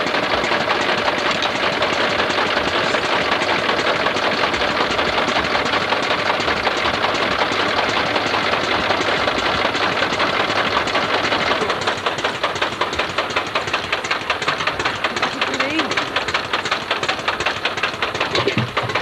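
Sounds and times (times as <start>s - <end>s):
engine knocking steadily: 0.0s - 19.0s.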